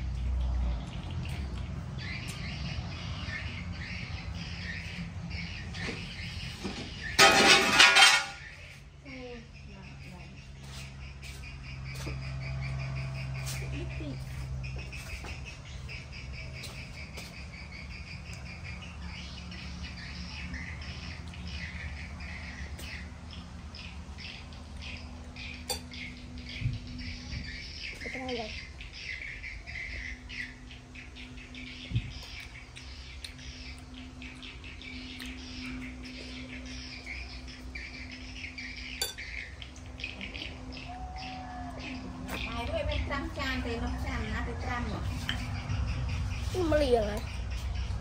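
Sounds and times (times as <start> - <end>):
birds chirping: 0.0 - 48.0
steady low hum: 0.0 - 48.0.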